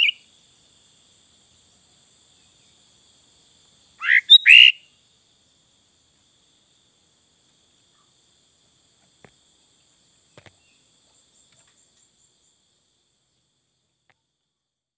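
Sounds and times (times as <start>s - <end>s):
crickets chirring: 0.0s - 14.8s.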